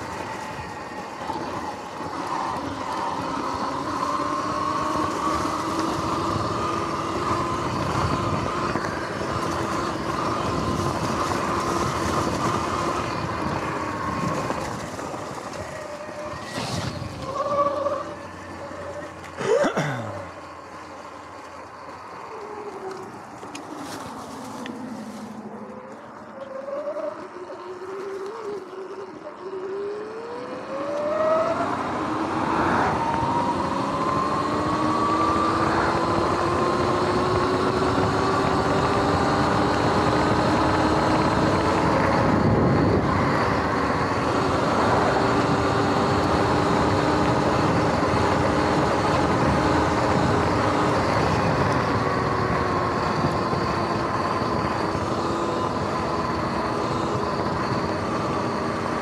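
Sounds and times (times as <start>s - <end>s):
electric motor whining: 0.0s - 19.5s, 20.2s - 59.0s.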